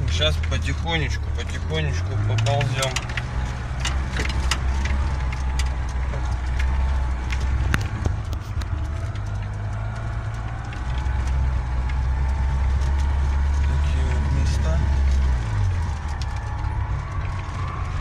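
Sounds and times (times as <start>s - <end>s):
car engine and road drone: 0.0s - 18.0s
knocks and rattles from bumps: 0.0s - 18.0s.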